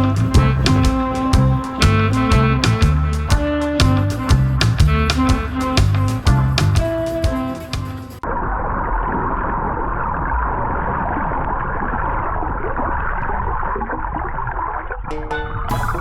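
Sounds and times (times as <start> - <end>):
muffled underwater rushing: 0.0 - 16.0.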